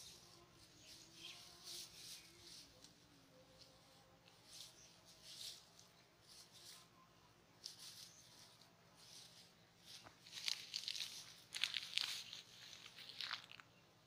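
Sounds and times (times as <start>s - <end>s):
dry straw rustling and crackling: 0.0s - 13.8s.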